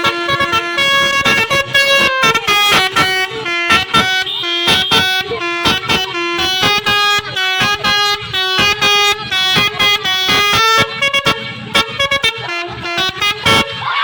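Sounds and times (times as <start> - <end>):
musical air horn playing a tune: 0.0 - 14.0.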